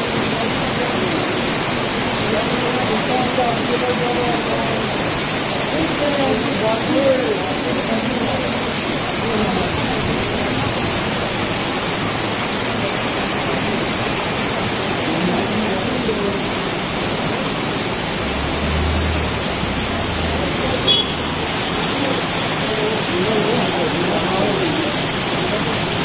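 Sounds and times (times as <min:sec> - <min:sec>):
heavy rain on wet pavement: 0:00.0 - 0:26.0.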